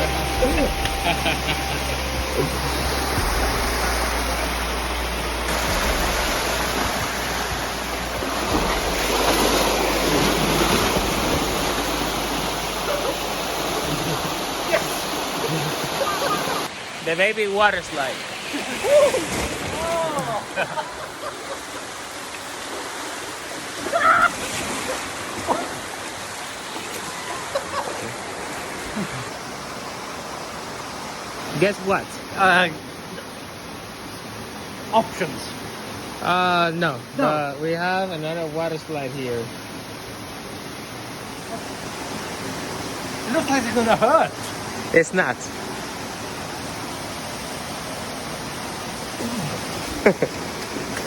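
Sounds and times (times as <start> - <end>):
creek water rushing over rocks: 0.0 - 51.0.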